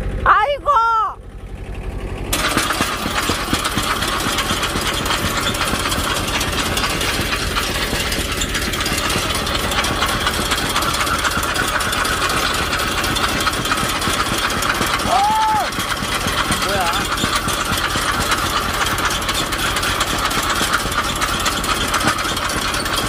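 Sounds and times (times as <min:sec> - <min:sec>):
engine running under load: 0:00.0 - 0:23.0
harvester rattling: 0:01.2 - 0:23.0.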